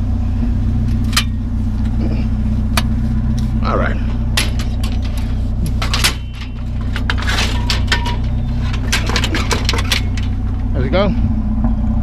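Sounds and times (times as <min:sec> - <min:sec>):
truck engine idling: 0:00.0 - 0:12.0
metal rails clanking and scraping: 0:00.9 - 0:11.2.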